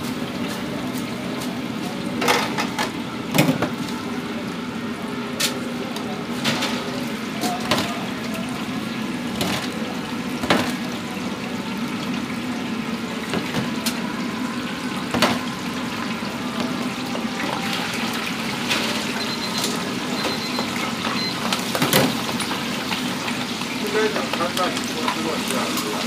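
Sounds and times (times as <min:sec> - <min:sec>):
fryer oil bubbling and hissing: 0:00.0 - 0:26.0.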